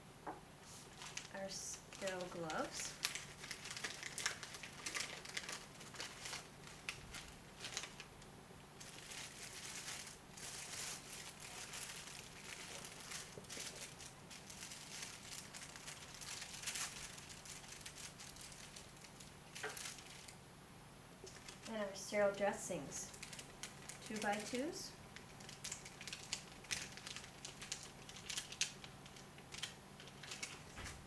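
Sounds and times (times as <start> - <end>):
paper wrapper crinkling: 0.7 - 20.4, 21.2 - 22.0, 22.8 - 31.0.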